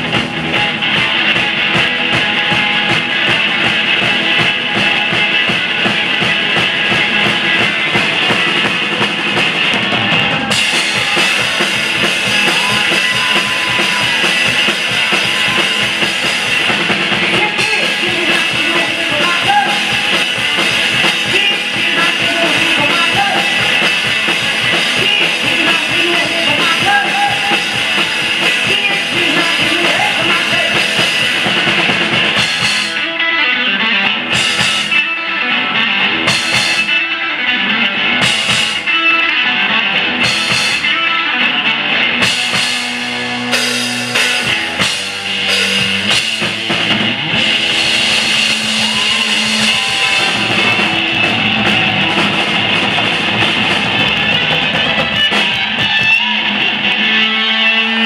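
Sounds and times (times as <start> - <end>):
drum kit playing: 0.0 - 58.0
electric guitar: 0.0 - 58.0.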